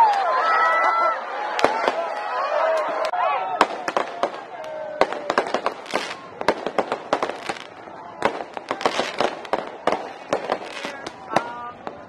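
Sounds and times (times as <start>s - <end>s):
fireworks crackling: 1.4s - 12.0s
fireworks bangs and cracks: 1.5s - 12.0s.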